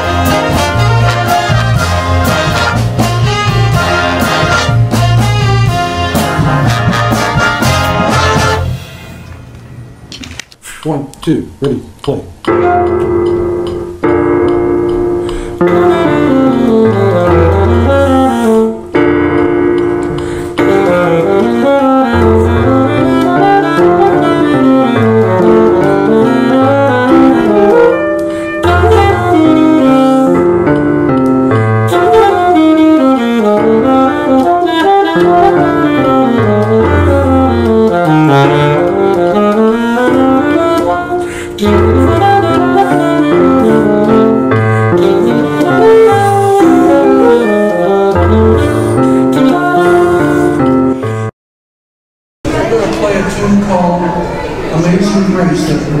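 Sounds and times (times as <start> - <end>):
saxophone jazz melody: 0.0 - 9.4, 12.4 - 51.3
piano chords: 0.0 - 10.3, 11.5 - 51.3, 52.5 - 56.0.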